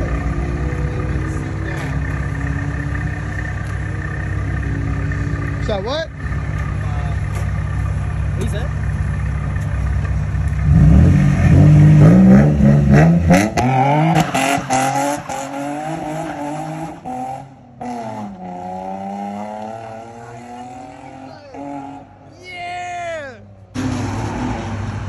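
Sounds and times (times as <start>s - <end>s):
car engine revving: 0.0s - 22.2s.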